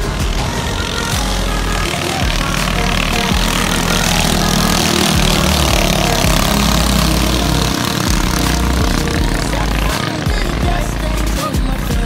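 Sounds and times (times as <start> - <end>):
racing boat engines: 0.0 - 12.0.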